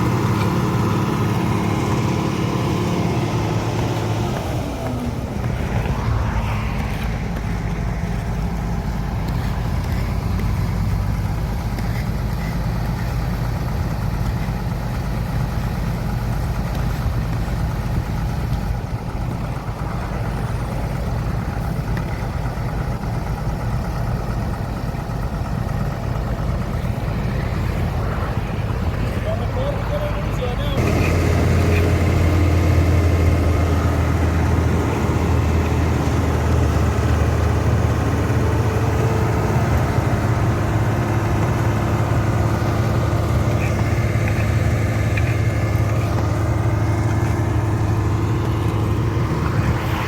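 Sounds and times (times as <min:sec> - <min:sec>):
diesel paving machinery drone: 0:00.0 - 0:50.0.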